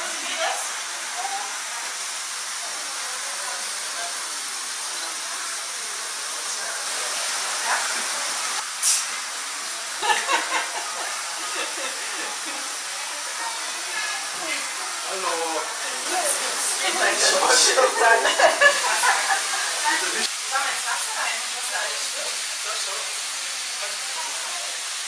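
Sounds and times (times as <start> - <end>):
faint indistinct voices: 0.0 - 25.0
steady hiss: 0.0 - 25.0.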